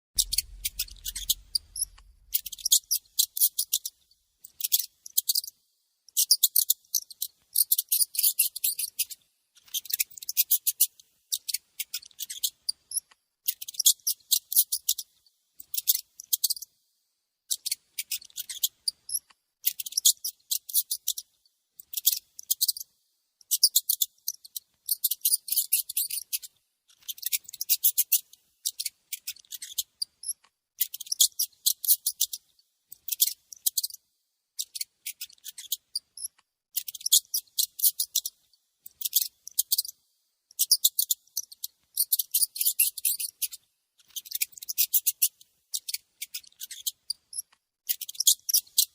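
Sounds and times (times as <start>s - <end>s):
mouse squeaking: 0.2s - 16.7s, 17.5s - 34.0s, 34.6s - 48.9s.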